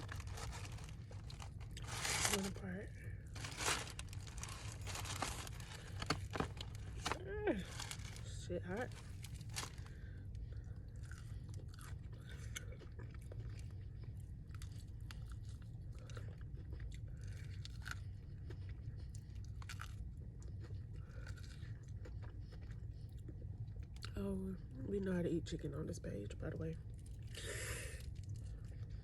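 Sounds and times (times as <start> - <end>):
chewing crispy fried chicken: 0.0 - 24.8, 26.8 - 29.0.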